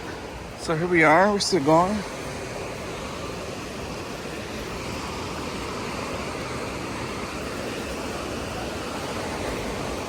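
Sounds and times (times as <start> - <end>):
ocean surf: 0.0 - 10.0.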